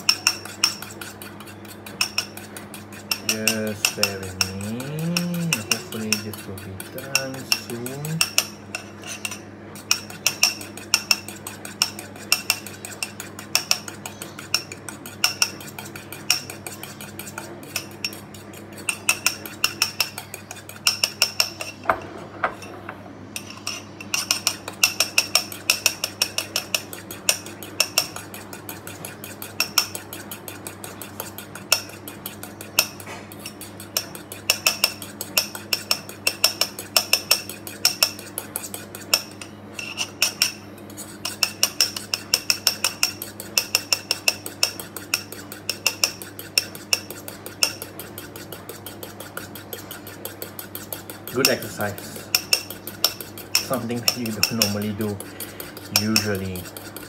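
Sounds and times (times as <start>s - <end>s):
fork whisking in ceramic bowl: 0.0s - 21.8s, 23.4s - 57.0s.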